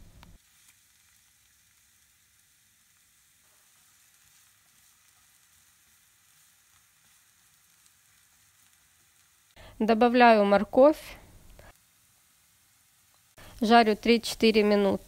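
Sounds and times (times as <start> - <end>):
onion sizzling in frying pan: 0.0 - 15.0.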